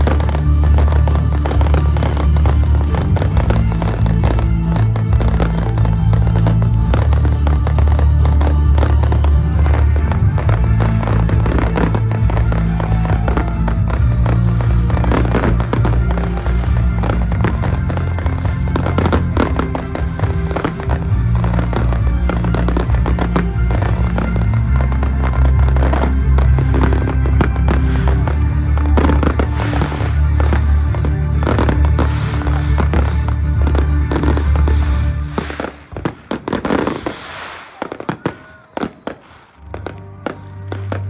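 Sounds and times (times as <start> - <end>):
music with heavy bass: 0.0 - 37.3
fireworks exploding and crackling: 0.0 - 41.0.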